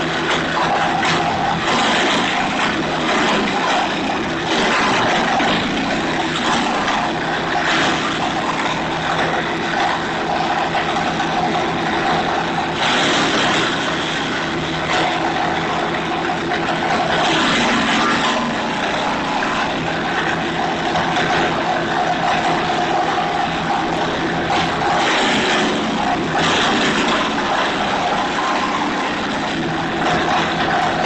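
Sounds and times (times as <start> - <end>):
wood chipper engine running: 0.0 - 31.0.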